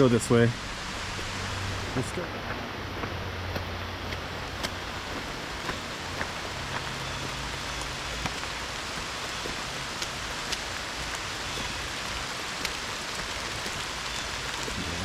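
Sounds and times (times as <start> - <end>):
rain falling in woods: 0.0 - 15.0.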